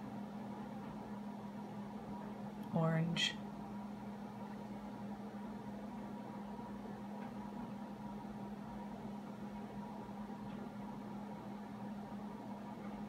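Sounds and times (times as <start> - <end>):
electrical appliance hum: 0.0 - 13.0.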